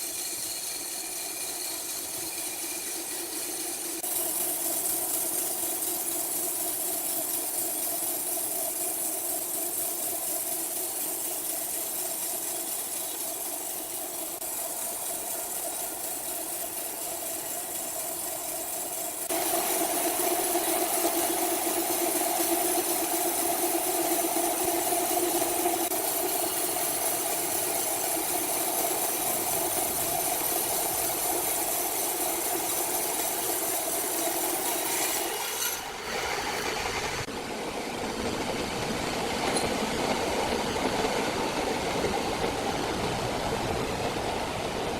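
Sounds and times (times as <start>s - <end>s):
sawmill machinery humming: 0.0s - 44.9s.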